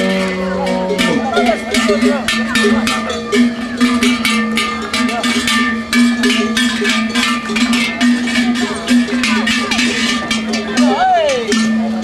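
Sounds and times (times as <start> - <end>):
harness bells clanging: 0.0 - 12.0.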